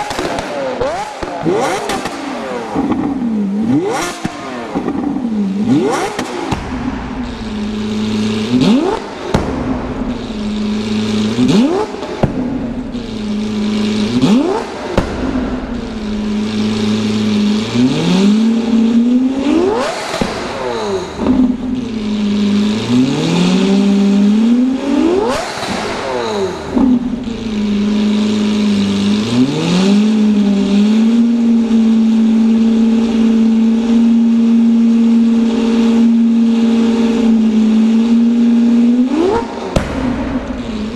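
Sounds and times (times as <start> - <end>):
car engine idling: 0.0 - 40.9
sports car engine revving: 0.0 - 40.9.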